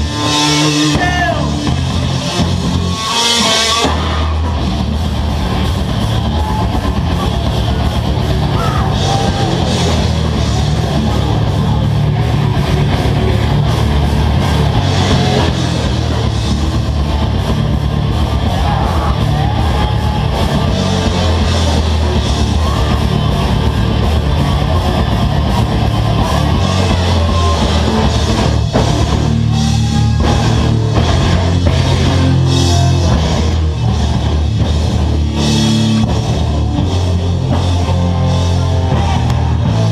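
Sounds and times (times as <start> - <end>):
bass: 0.0 - 39.9
distorted electric guitars: 0.0 - 39.9
drum kit: 0.0 - 39.9.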